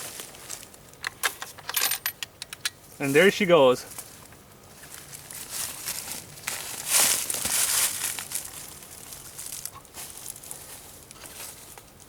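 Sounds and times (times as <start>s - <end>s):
branches crackling and crunching: 0.0s - 1.0s, 2.8s - 12.0s.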